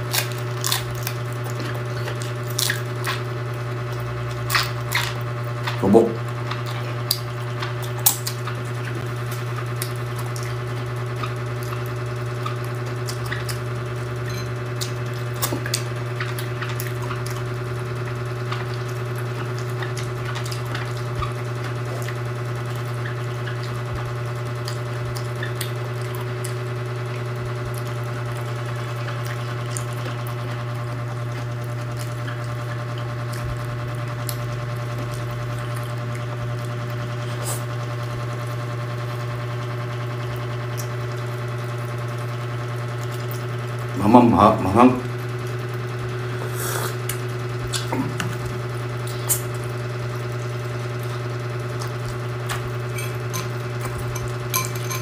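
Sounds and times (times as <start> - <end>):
person chewing: 0.0 - 37.8, 40.7 - 41.0, 43.0 - 43.5, 45.4 - 55.0
low mechanical hum: 0.0 - 55.0.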